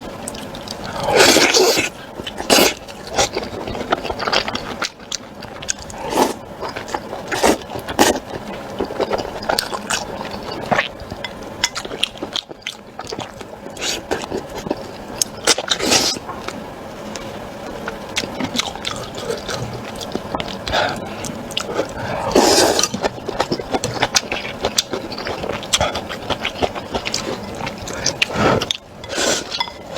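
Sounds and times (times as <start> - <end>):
food crunching: 0.2 - 29.9
person chewing food: 0.2 - 29.9.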